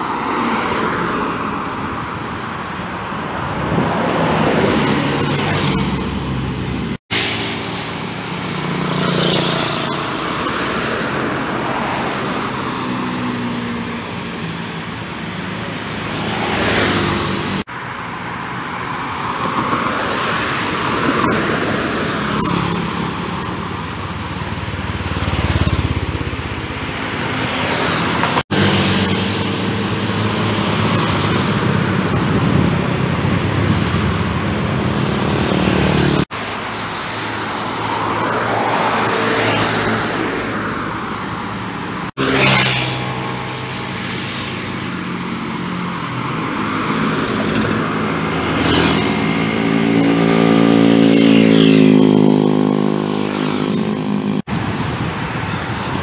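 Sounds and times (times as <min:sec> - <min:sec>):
vehicles passing by: 0:00.0 - 0:56.0.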